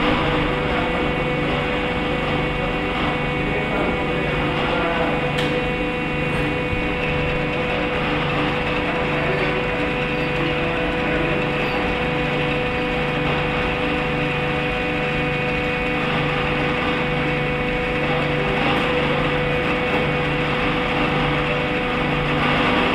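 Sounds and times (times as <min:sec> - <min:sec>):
low mechanical drone: 0:00.0 - 0:22.9
machine hum: 0:00.0 - 0:22.9.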